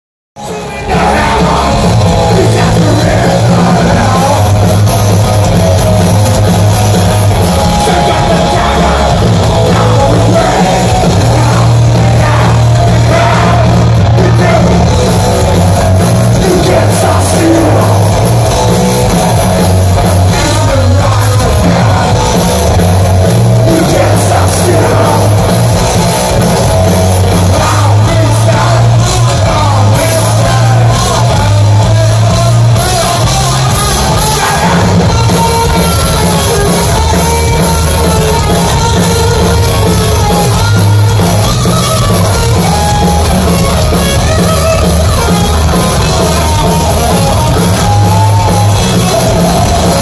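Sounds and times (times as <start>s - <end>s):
live metal band playing: 0.4s - 50.0s.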